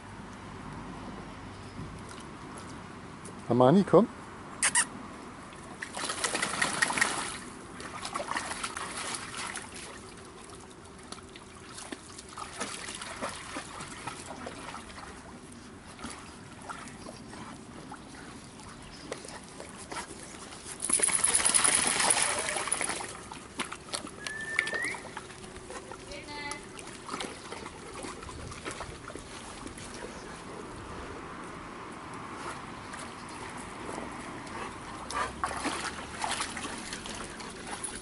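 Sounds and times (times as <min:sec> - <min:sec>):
water splashing and trickling: 0:01.7 - 0:03.2, 0:05.2 - 0:38.0.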